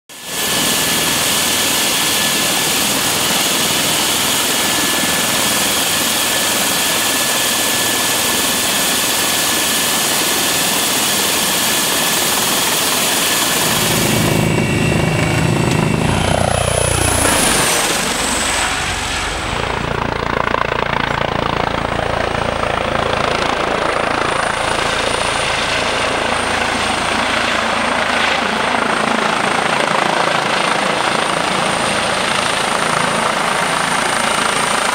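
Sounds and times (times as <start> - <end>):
helicopter rotor noise: 0.1 - 34.9
high turbine whine: 0.1 - 34.9.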